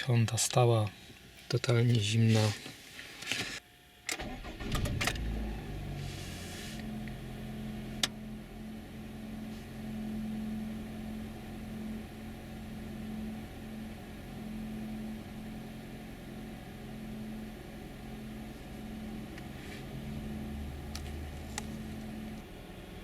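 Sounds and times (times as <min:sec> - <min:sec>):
car engine idling: 0:04.2 - 0:23.0.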